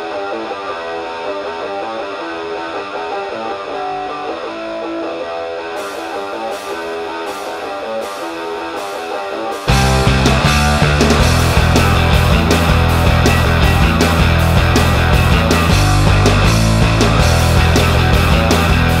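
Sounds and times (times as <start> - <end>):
plucked guitar music: 0.0 - 19.0.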